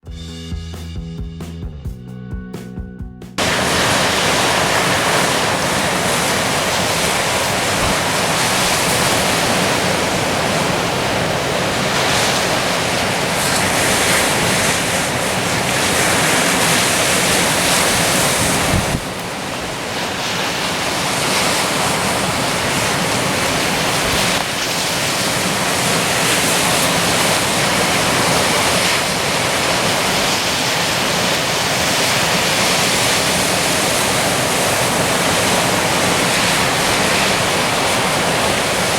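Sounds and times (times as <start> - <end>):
ocean surf washing ashore: 3.4 - 38.9
wind buffeting microphone: 3.4 - 38.9.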